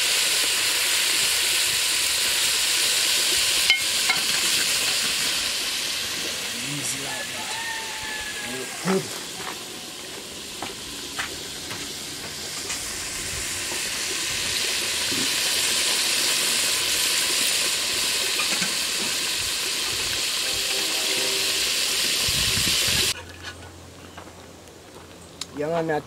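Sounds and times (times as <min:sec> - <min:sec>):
chicken sizzling in hot oil: 0:00.0 - 0:23.2.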